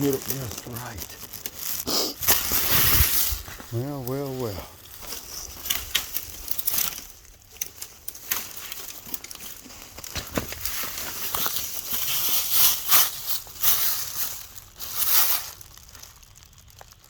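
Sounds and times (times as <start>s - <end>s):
dirt crunching and rustling: 0.0s - 17.0s.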